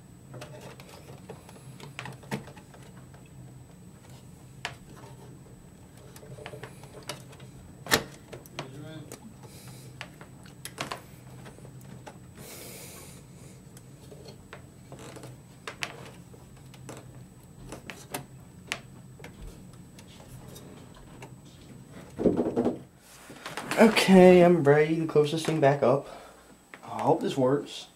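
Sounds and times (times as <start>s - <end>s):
low steady hum: 0.0s - 27.9s.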